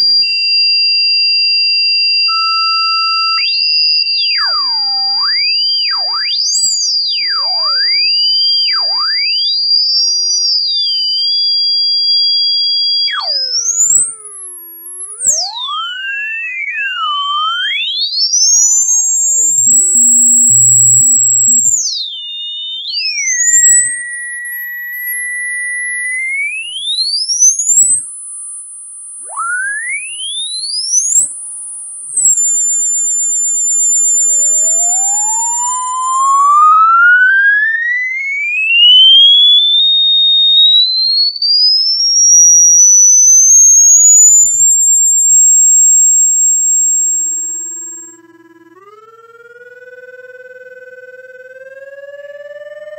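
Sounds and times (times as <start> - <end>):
electronic tones sweeping in pitch: 2.1 - 52.9.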